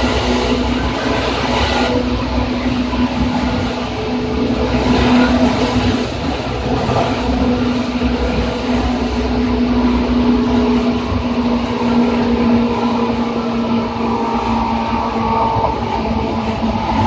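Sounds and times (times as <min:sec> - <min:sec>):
low motor hum: 0:00.0 - 0:17.0
train rolling noise: 0:00.0 - 0:17.0.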